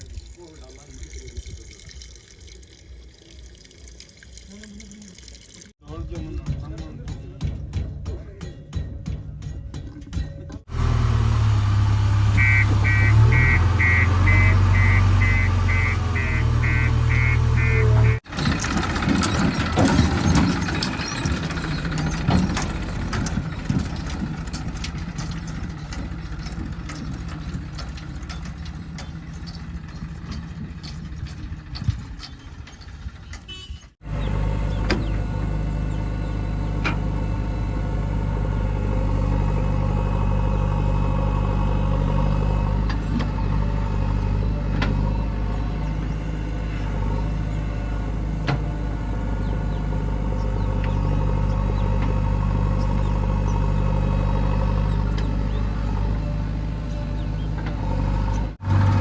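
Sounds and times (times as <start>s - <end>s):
heavy diesel engine running: 10.6s - 33.4s, 34.0s - 59.0s.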